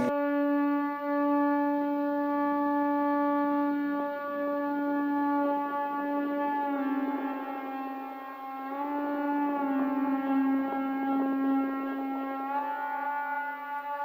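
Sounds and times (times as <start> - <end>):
long horn-like wind instrument note: 0.0 - 14.0.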